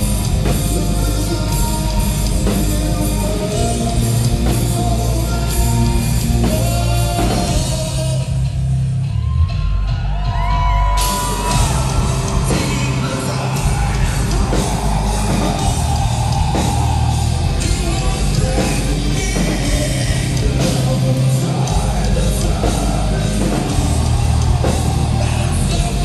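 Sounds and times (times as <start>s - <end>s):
man singing and yelling: 0.0s - 8.5s, 11.0s - 26.0s
drums: 0.0s - 26.0s
heavy rock band playing: 0.0s - 26.0s.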